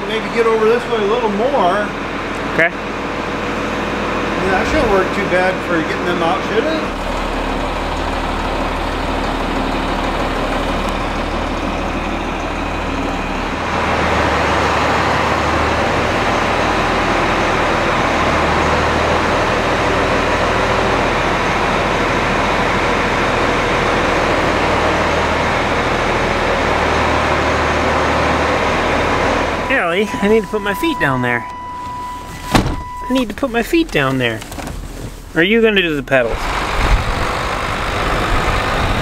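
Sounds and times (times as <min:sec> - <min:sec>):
loud noisy engine: 0:00.0 - 0:34.4, 0:35.4 - 0:39.0
tractor diesel engine running: 0:00.0 - 0:39.0.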